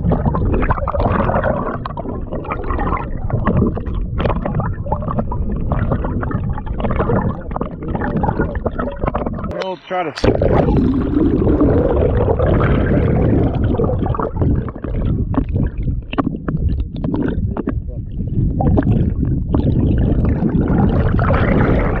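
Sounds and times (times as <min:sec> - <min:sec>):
water rushing and gurgling underwater: 0:00.0 - 0:22.0.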